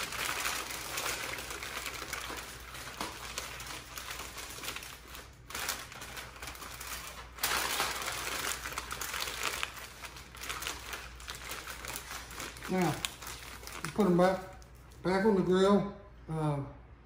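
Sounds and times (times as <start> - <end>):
aluminium foil crinkling: 0.0 - 15.3.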